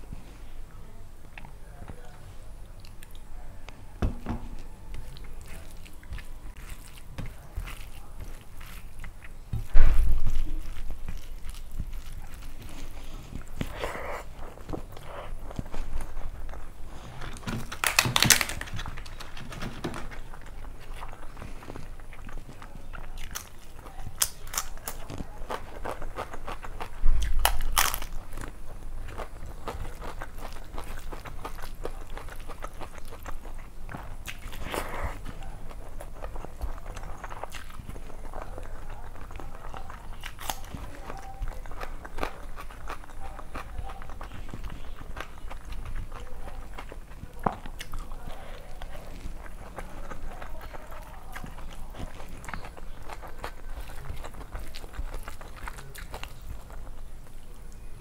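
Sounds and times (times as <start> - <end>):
soft chewing and mouth clicks: 0.0 - 58.0
fingers squishing food: 0.7 - 58.0.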